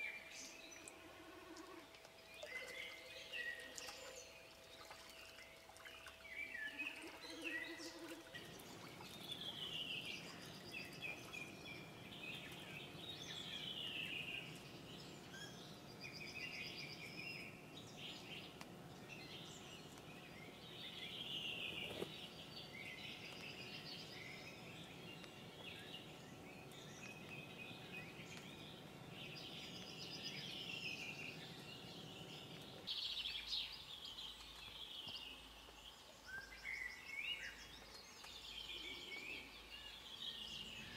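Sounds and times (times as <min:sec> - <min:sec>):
faint background hiss: 0:00.0 - 0:40.9
songbirds singing: 0:00.0 - 0:40.9.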